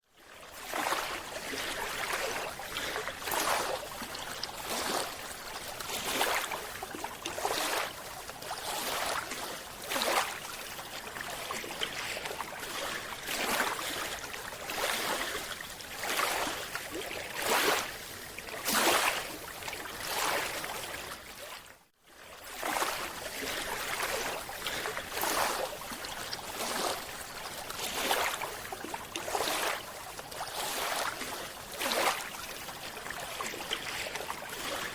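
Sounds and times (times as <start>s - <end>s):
water rushing and bubbling: 0.5s - 21.7s, 22.4s - 34.9s.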